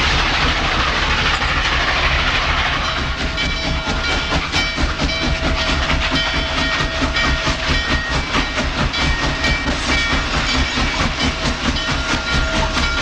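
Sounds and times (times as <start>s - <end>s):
steam locomotive exhaust beat: 0.0s - 13.0s
train clatter on rails: 0.0s - 13.0s.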